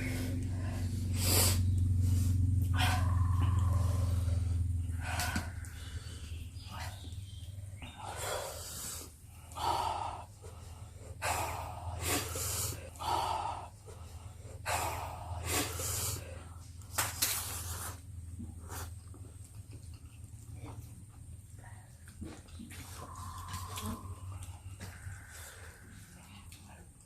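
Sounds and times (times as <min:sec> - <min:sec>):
people puffing and gasping: 0:00.0 - 0:19.5, 0:22.1 - 0:26.6
low hum: 0:00.0 - 0:27.0.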